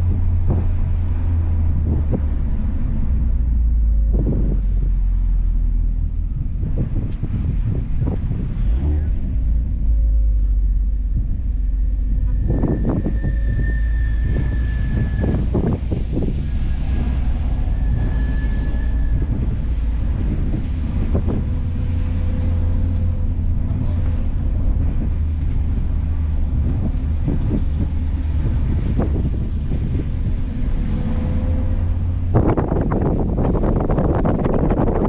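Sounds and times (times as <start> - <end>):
loud rushing noise: 0.0 - 5.5, 12.0 - 35.0
car engine and road drone: 0.0 - 35.0
wind noise: 0.0 - 35.0.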